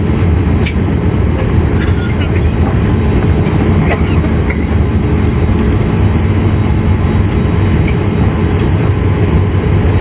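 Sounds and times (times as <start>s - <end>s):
airliner cabin low rumble: 0.0s - 10.0s.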